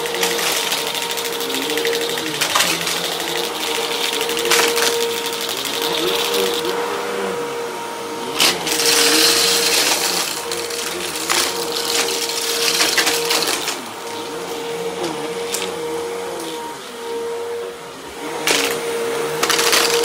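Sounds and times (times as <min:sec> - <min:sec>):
vacuum cleaner motor humming: 0:00.0 - 0:20.0.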